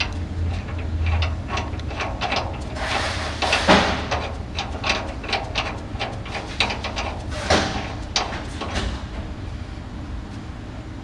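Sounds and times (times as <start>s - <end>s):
metal part clicking and scraping: 0.0s - 9.0s
low steady hum: 0.0s - 11.0s.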